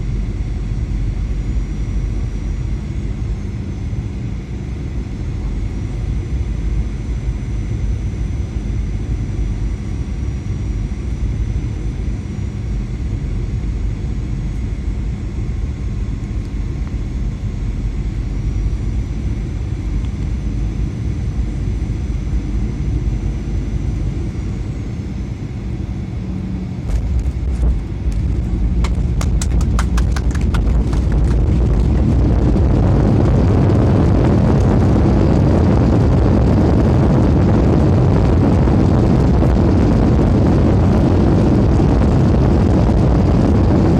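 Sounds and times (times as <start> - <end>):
aircraft engine rumble in cabin: 0.0 - 43.9
jet engines roaring: 0.0 - 43.9
whining fan tones: 0.0 - 43.9.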